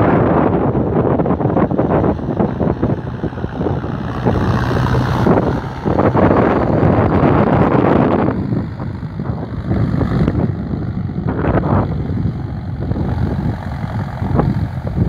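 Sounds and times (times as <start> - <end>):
tractor diesel engine running: 0.2 - 15.0.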